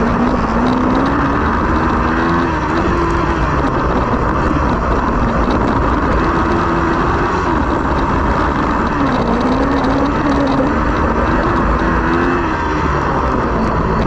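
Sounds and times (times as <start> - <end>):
buggy engine running hard: 0.0 - 14.0
steady rushing noise: 0.0 - 14.0.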